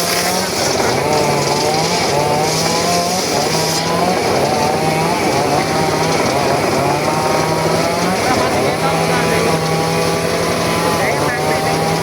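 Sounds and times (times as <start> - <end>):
circular saw cutting wood: 0.0 - 12.0.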